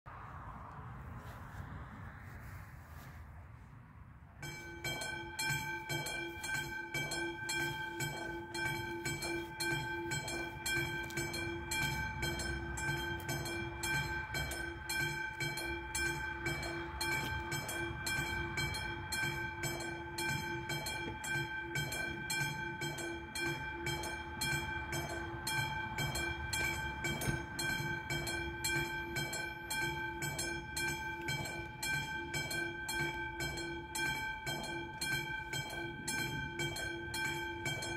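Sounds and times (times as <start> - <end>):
level crossing bell ringing: 4.4 - 37.9.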